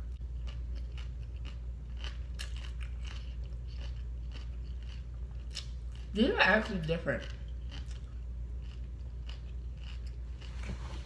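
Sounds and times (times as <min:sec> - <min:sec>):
low steady hum: 0:00.0 - 0:11.0
chewing crunching clicks: 0:00.4 - 0:06.1, 0:07.2 - 0:10.5.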